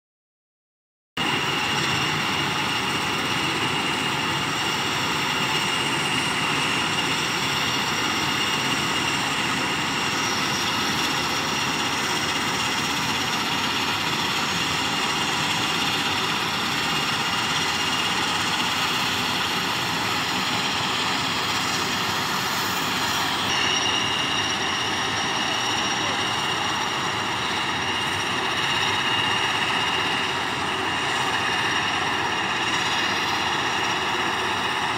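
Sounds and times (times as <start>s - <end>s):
aircraft turbine engine: 1.2s - 34.9s
high turbine whine: 1.2s - 34.9s.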